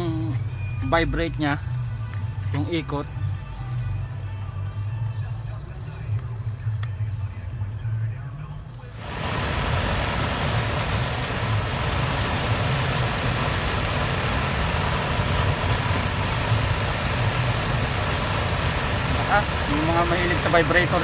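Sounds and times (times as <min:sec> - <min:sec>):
blower fan whirring with low hum: 0:00.0 - 0:21.0.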